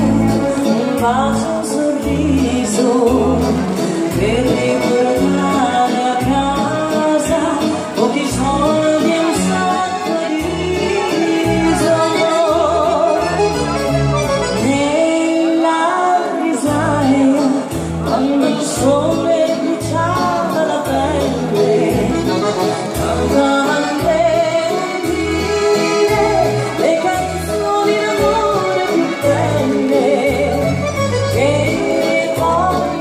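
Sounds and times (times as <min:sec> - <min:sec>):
live dance band music: 0:00.0 - 0:33.0.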